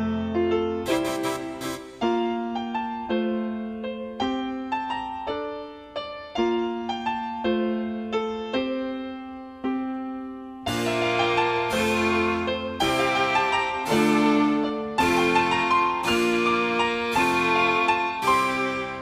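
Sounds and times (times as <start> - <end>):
slow solo piano: 2.0 - 19.0.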